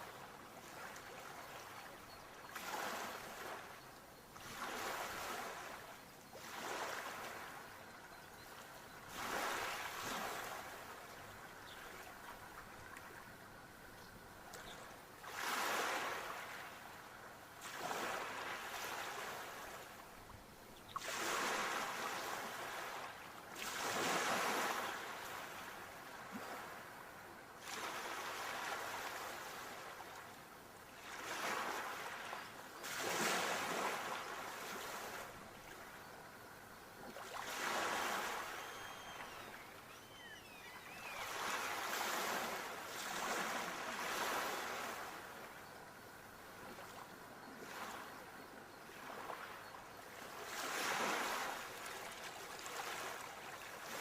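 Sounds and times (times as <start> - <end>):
sea waves breaking on shore: 0.0 - 3.8, 4.4 - 8.0, 8.6 - 13.7, 15.1 - 30.3, 31.0 - 36.0, 37.0 - 45.8, 48.9 - 54.0.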